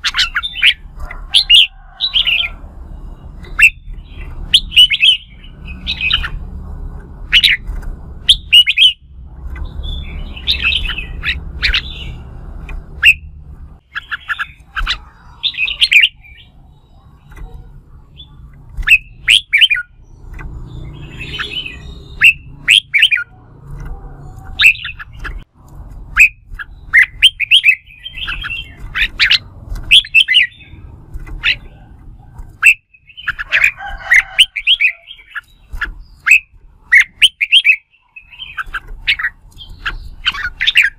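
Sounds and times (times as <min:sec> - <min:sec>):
bird whistling song: 0:00.0 - 0:06.4, 0:07.3 - 0:23.4, 0:24.2 - 0:25.4, 0:26.1 - 0:31.9, 0:32.6 - 0:40.9.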